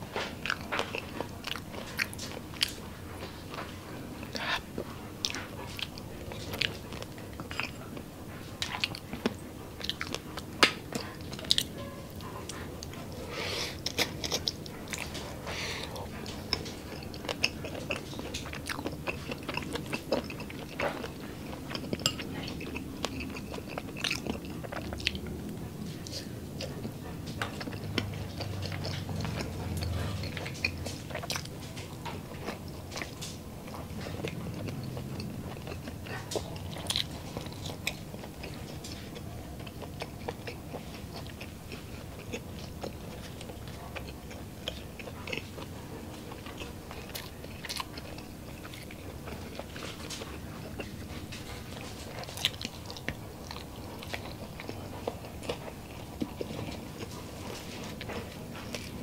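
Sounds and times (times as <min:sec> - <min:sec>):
chewing with wet mouth clicks: 0:00.1 - 0:59.0.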